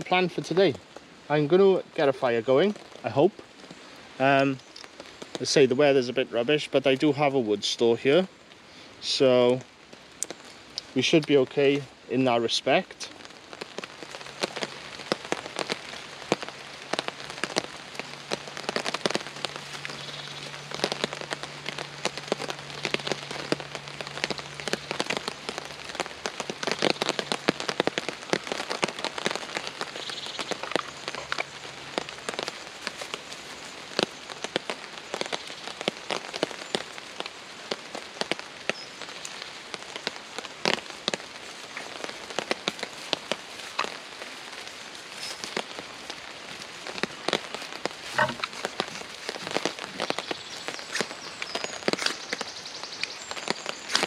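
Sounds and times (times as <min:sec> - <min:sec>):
heavy rain on a tarp: 0:00.0 - 0:54.0.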